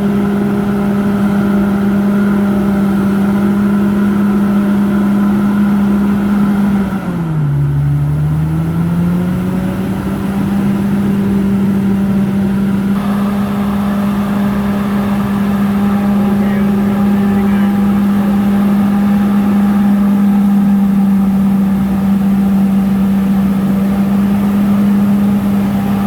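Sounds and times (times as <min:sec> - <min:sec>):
dozer diesel engine running: 0:00.0 - 0:26.0.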